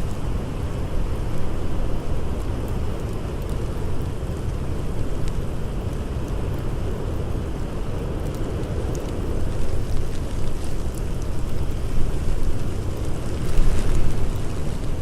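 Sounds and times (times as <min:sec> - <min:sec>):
blizzard wind blowing: 0:00.0 - 0:15.0
faint campfire crackles: 0:00.0 - 0:15.0.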